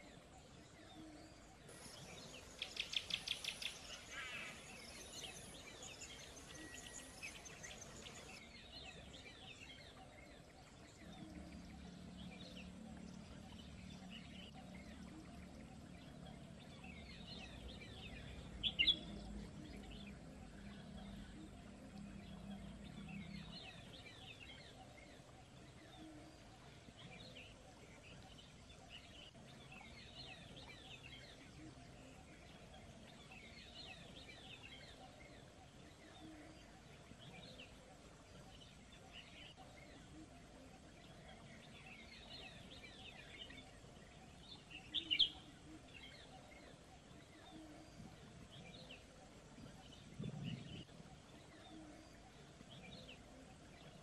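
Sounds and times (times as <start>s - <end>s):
faint steady background hiss: 0.0s - 54.0s
small birds chirping: 0.0s - 54.0s.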